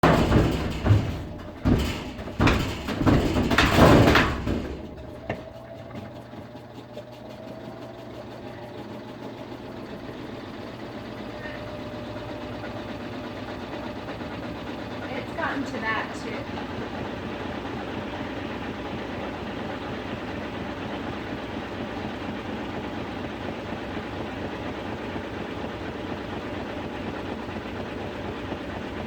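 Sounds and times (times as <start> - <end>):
washing machine humming: 0.0 - 29.0
washing machine knocking: 0.0 - 29.0.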